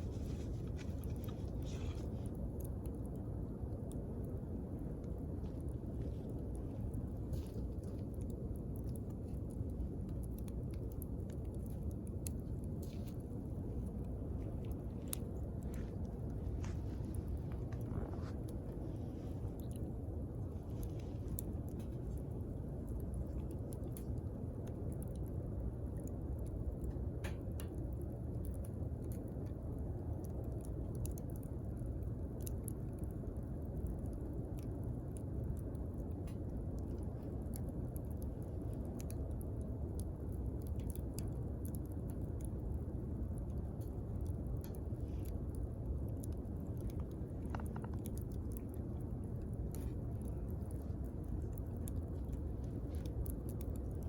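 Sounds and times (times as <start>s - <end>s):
campfire crackling: 0.0s - 54.0s
low fire rumble: 0.0s - 54.0s.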